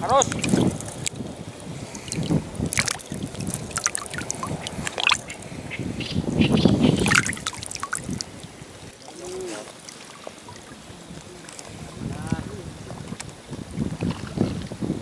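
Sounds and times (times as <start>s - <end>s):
water sloshing and splashing: 0.0s - 5.7s, 6.4s - 15.0s.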